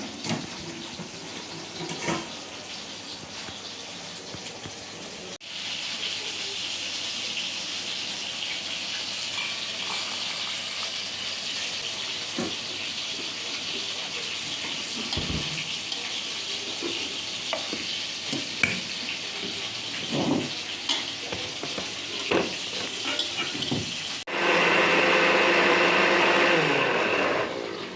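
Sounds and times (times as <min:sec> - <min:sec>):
food sizzling in hot oil: 0:00.0 - 0:27.9.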